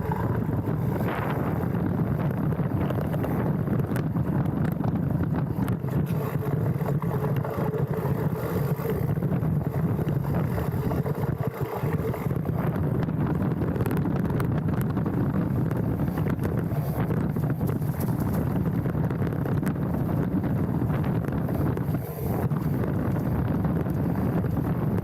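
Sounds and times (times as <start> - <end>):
bike clicks and rattles: 0.0 - 25.0
bike tyre noise: 0.0 - 25.0
wind rumble on microphone: 0.0 - 25.0.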